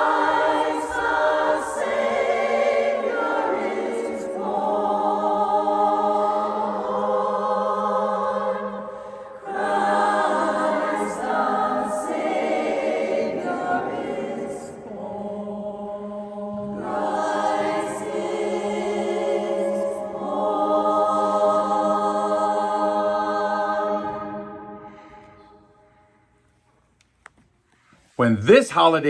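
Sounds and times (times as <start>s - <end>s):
barbershop chorus singing: 0.0s - 25.0s.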